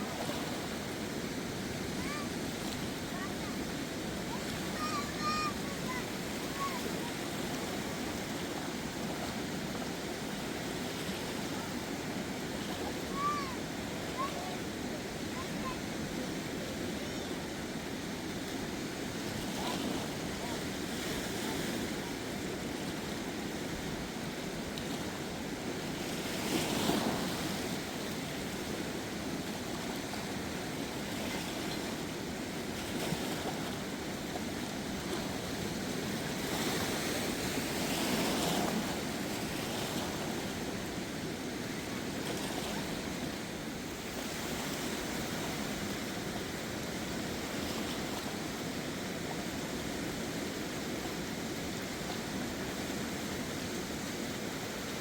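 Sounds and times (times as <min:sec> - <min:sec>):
rushing river roar: 0:00.0 - 0:55.0.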